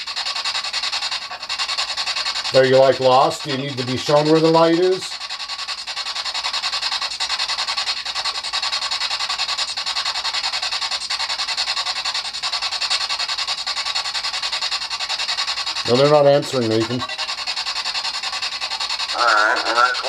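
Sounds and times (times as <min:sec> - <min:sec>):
pulsing radio static: 0:00.0 - 0:20.0.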